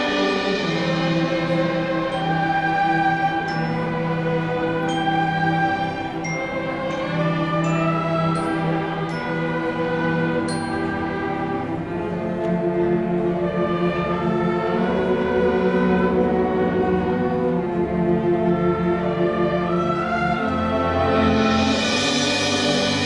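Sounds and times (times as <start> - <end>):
bowed strings: 0.0 - 23.0
brass: 0.0 - 23.0
woodwinds: 0.0 - 23.0.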